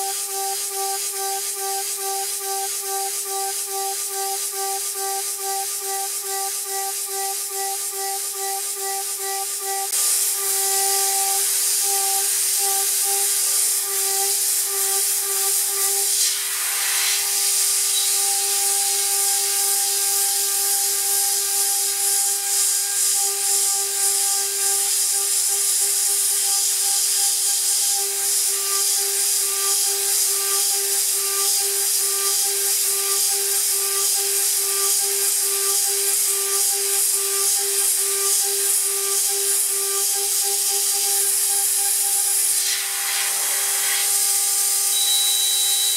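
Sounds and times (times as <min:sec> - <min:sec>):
router spindle whine: 0:00.0 - 0:45.9.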